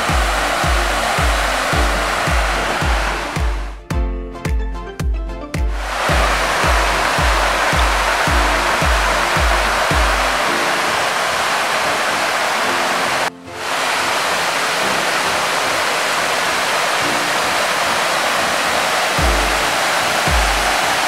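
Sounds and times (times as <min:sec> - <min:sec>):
water rushing over rocks: 0:00.0 - 0:03.8, 0:05.7 - 0:21.0
soft background music: 0:00.0 - 0:21.0.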